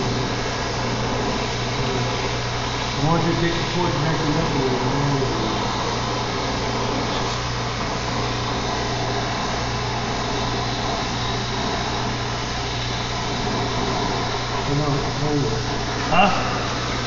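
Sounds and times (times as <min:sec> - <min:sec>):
low hum: 0:00.0 - 0:17.0
torch flame hissing: 0:00.0 - 0:17.0.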